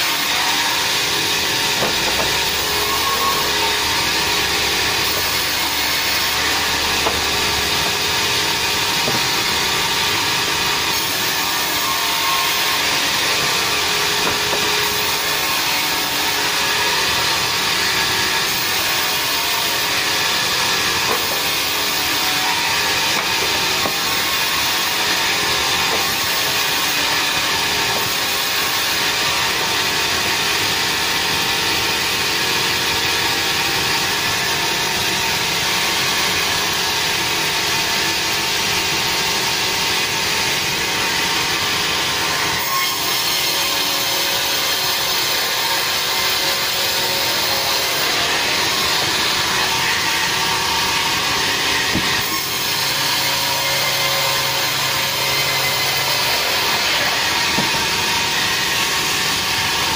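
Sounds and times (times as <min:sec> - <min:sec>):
saw cutting through log: 0:00.0 - 0:59.9.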